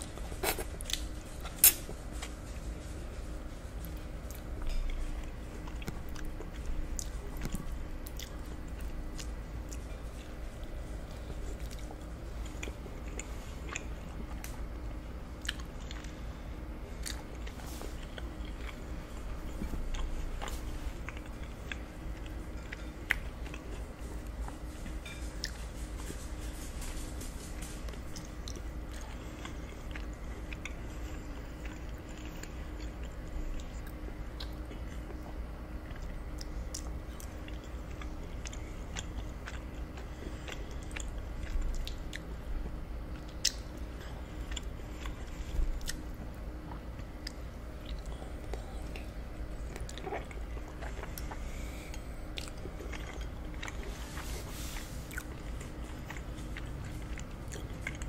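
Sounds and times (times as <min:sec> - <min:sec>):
close chewing and biting: 0:00.0 - 0:58.0.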